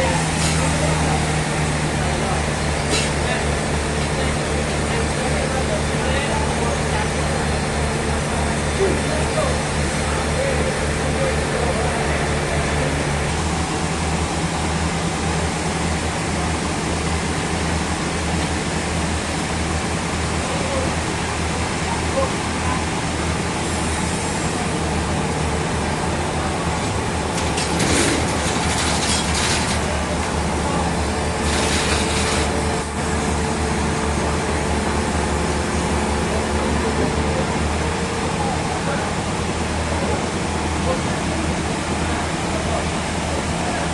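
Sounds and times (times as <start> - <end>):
sawmill machinery humming: 0.0 - 43.9.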